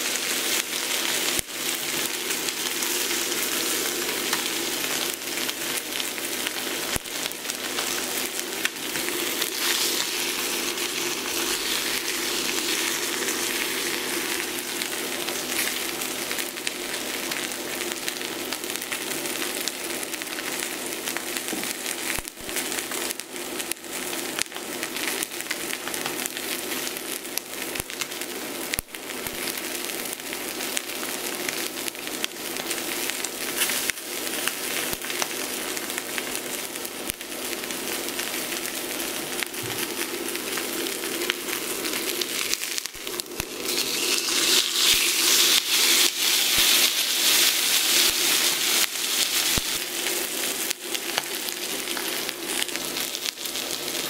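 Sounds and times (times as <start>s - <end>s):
steak sizzling in a skillet: 0.0s - 54.0s
fat crackling and popping: 0.1s - 54.0s.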